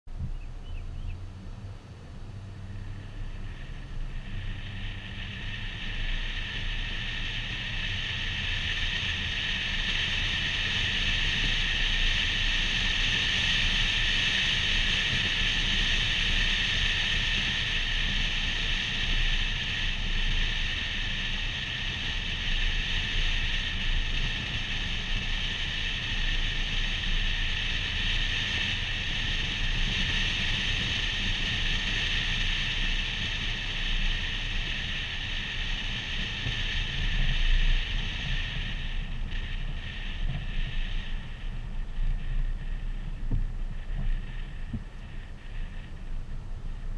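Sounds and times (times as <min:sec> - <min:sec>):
low car rumble: 0:00.0 - 0:46.9
wind and road noise hiss: 0:00.1 - 0:46.9.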